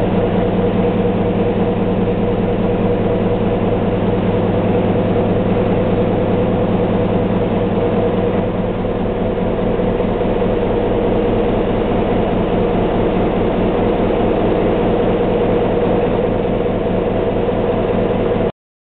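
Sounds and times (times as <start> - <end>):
diesel engine running: 0.0 - 18.5.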